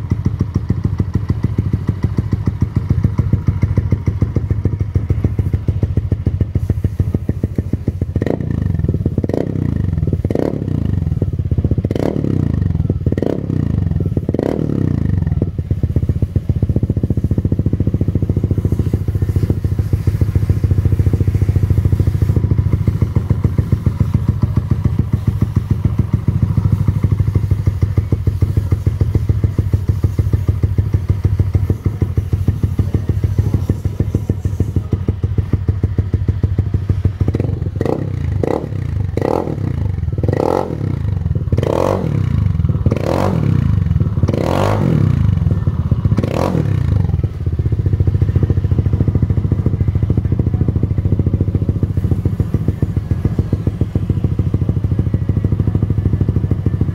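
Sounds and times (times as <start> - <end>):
motorcycle engine idling: 0.0 - 56.9
motorcycle throttle blips: 0.0 - 56.9.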